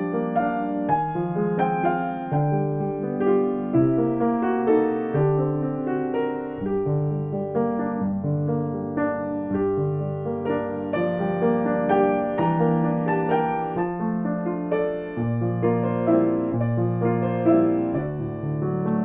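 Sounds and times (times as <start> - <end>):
gentle piano piece: 0.0 - 19.0.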